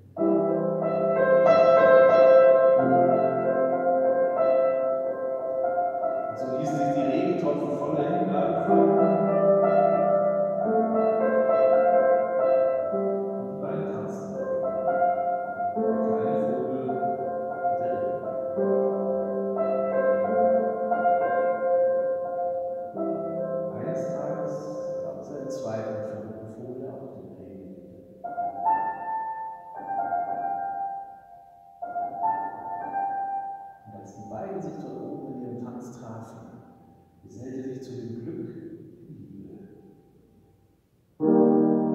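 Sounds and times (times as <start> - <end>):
grand piano chords: 0.0 - 41.9.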